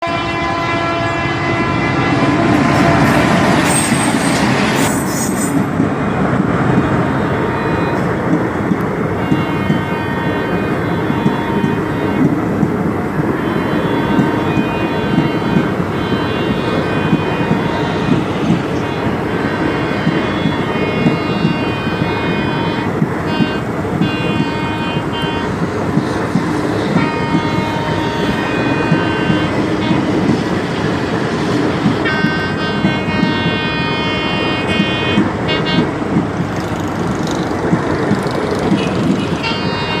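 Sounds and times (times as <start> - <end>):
train horn blasts: 0.0 - 4.9, 6.8 - 36.3, 38.1 - 40.0
train rumbling: 0.0 - 40.0.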